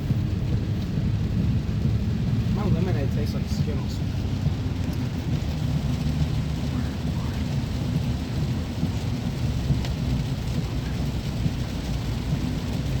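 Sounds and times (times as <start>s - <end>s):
heavy rain pouring: 0.0s - 13.0s
low continuous rumble: 0.0s - 13.0s.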